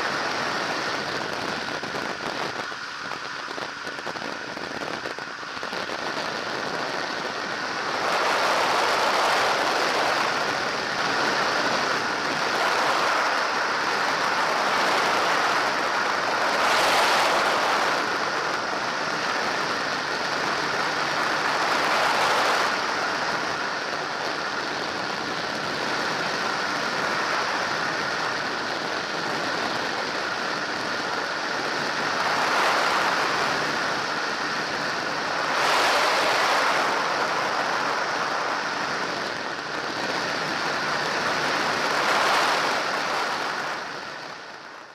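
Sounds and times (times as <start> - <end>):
aircraft engine drone: 0.0 - 44.9
wind rushing: 0.0 - 44.9.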